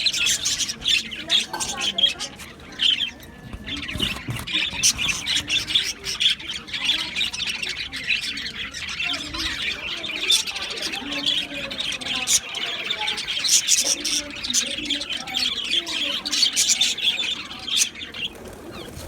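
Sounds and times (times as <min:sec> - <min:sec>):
budgerigars chattering and chirping: 0:00.0 - 0:19.0.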